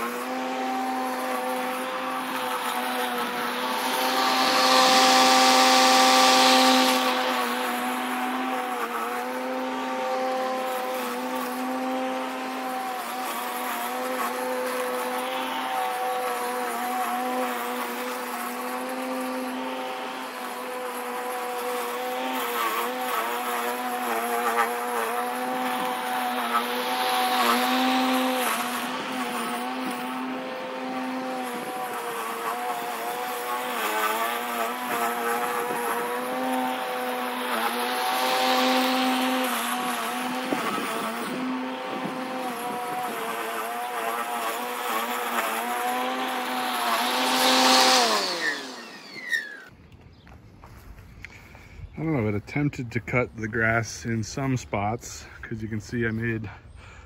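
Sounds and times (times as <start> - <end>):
grass rustling hiss: 0.0 - 49.7
electric mower motor whine: 0.0 - 53.2.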